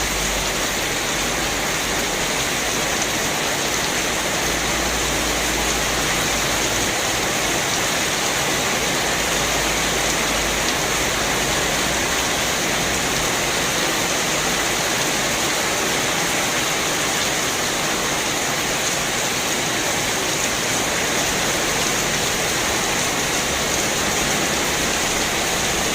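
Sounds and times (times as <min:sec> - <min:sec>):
rain on motorcycles: 0:00.0 - 0:25.9.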